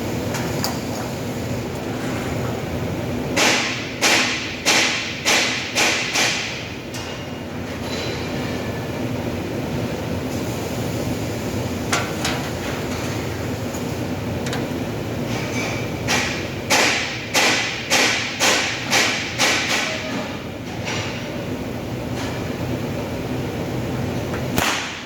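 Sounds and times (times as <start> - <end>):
workshop hum: 0.0 - 25.0.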